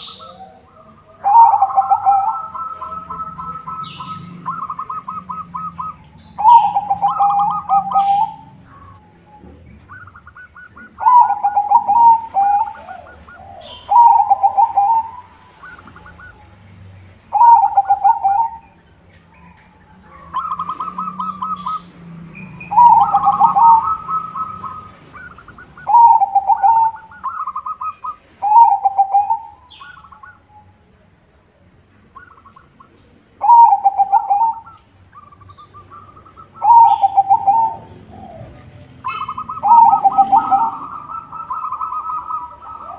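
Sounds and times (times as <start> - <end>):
dove cooing: 0.0 - 31.0, 32.1 - 42.9.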